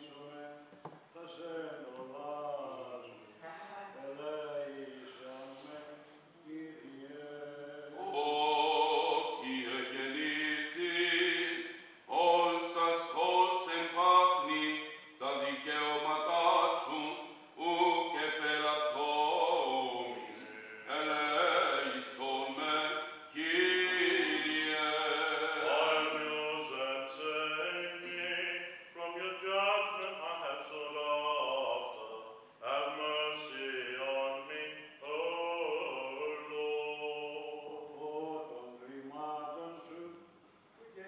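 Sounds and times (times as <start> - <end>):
man chanting unaccompanied: 0.0 - 41.0.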